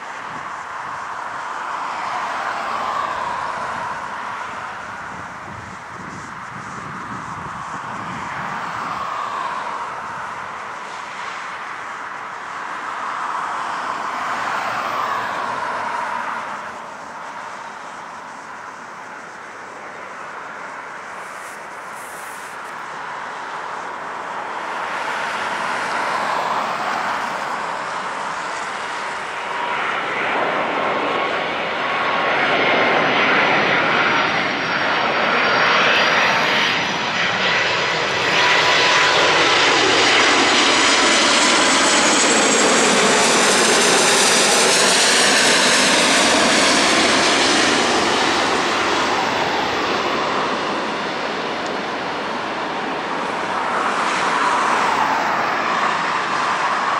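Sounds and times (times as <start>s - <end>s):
jet plane flying overhead: 0.0s - 56.9s.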